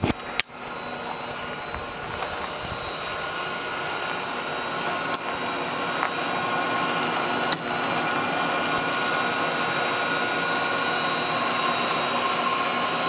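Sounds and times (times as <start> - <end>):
drill press humming: 0.0 - 13.0
high whine: 0.0 - 13.0.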